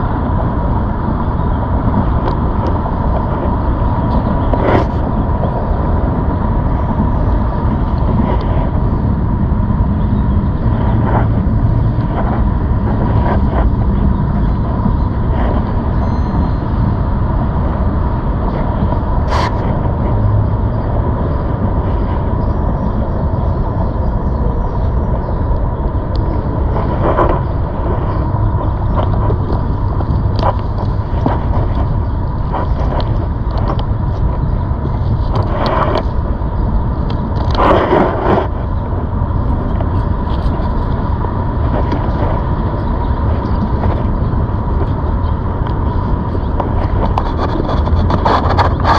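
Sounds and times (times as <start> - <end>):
faint steady whine: 0.0 - 48.9
wind and rolling noise: 0.0 - 48.9.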